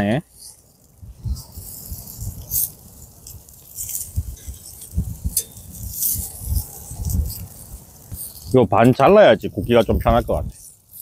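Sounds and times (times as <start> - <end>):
metal tongs scraping grill grate: 0.3 - 11.0.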